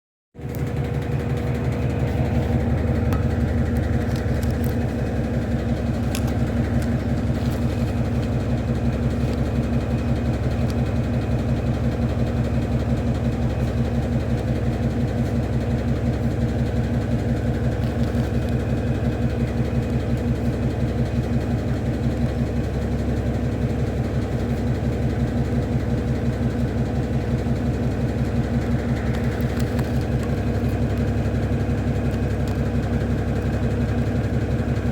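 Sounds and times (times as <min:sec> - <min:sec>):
washing machine spinning: 0:00.4 - 0:34.9.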